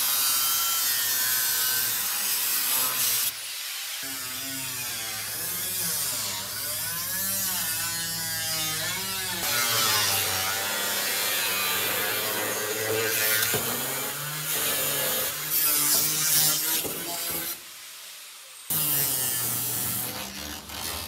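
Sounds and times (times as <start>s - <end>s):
angle grinder cutting steel: 0.0s - 17.9s, 18.7s - 21.0s.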